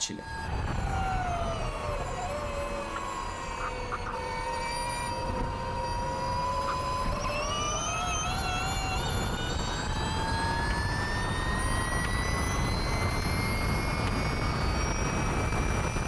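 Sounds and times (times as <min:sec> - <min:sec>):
electric motorcycle whine: 0:00.0 - 0:16.0
wind noise on microphone: 0:00.3 - 0:16.0.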